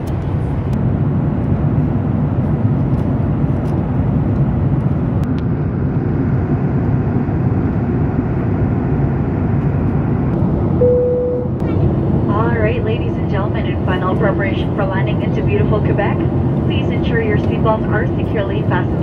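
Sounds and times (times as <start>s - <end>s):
airliner cabin engine noise: 0.0s - 19.0s.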